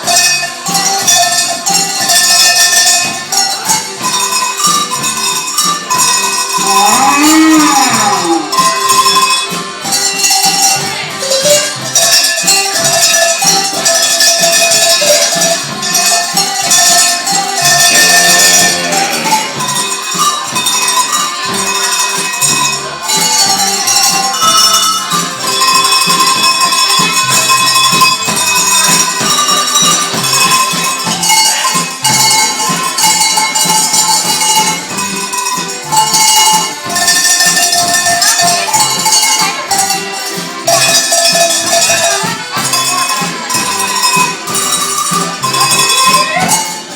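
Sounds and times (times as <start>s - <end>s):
tuned cowbells playing a melody: 0.0s - 46.9s.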